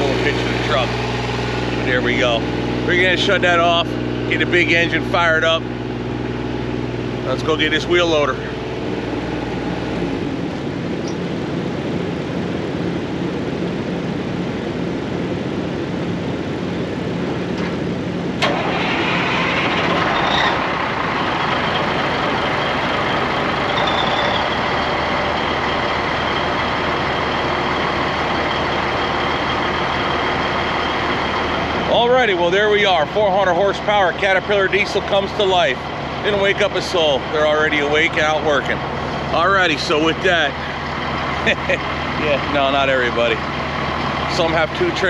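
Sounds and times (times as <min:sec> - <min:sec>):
diesel engine starting and idling: 0:00.0 - 0:45.0
truck engine hum: 0:00.0 - 0:45.0.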